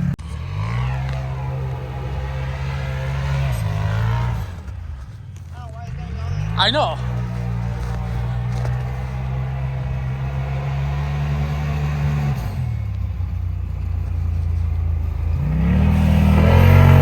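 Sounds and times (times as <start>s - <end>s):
vehicle engine running and revving: 0.0s - 17.0s.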